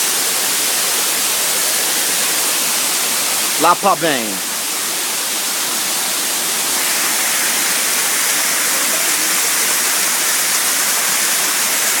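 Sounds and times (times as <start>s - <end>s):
water rushing over rapids: 0.0s - 12.0s.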